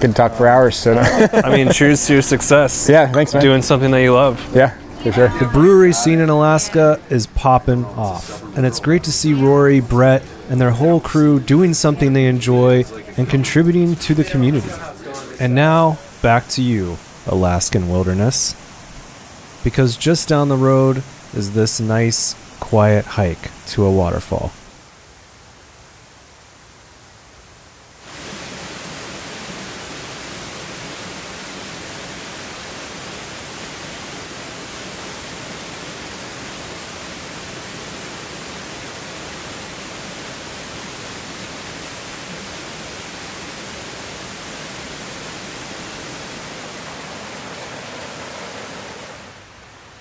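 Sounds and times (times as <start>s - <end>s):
waterfall rushing: 0.0s - 24.8s, 28.0s - 50.0s.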